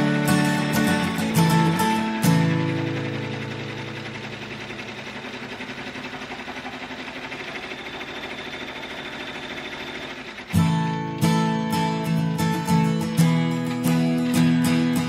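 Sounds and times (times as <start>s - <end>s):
embroidery machine stitching: 0.0s - 15.0s.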